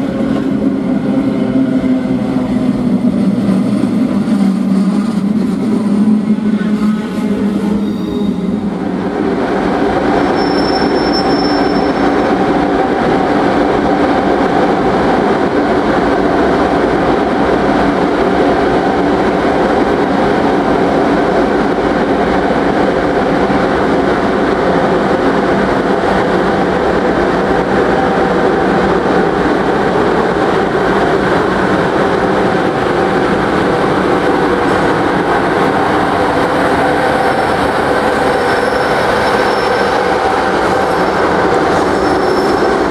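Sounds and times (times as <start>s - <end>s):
electric locomotive humming: 0.0s - 42.9s.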